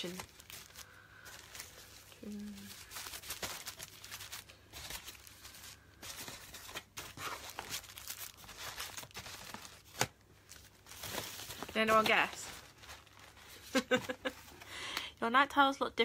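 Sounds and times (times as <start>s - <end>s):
plastic wrappers crinkling: 0.0s - 14.6s.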